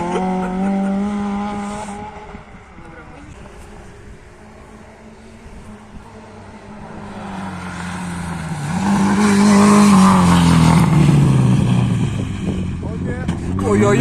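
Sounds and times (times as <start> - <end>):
rally car passing by: 0.0 - 14.0.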